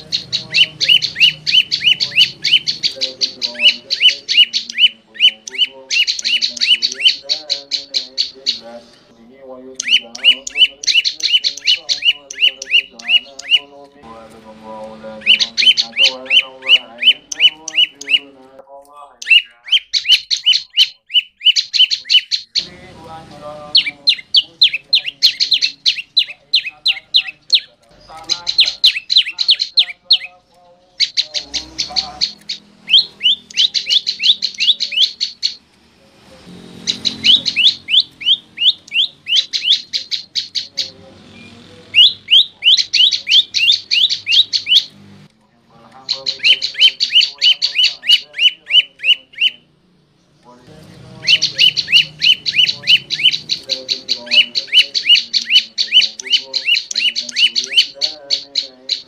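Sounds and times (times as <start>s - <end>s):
songbird singing sharp high notes: 0.0s - 18.4s, 19.1s - 45.2s, 45.8s - 49.7s, 50.5s - 59.0s.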